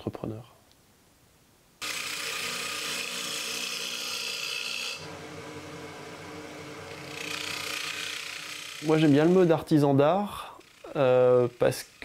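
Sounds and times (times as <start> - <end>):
gouge scraping spinning wood: 1.8 - 12.0
lathe humming: 1.8 - 12.0.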